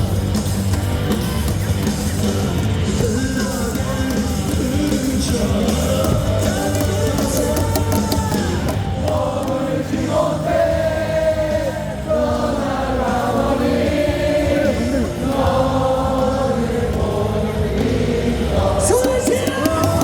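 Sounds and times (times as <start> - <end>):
amplified music: 0.0 - 20.0
stadium crowd singing in unison: 0.0 - 20.0.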